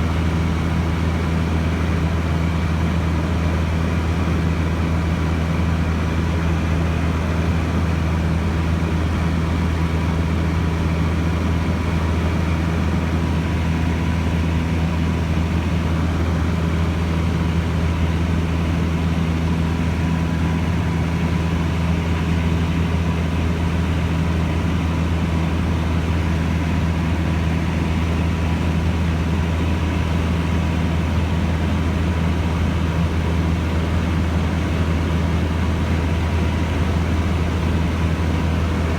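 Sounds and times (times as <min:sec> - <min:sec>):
propeller plane engine droning: 0:00.0 - 0:38.9.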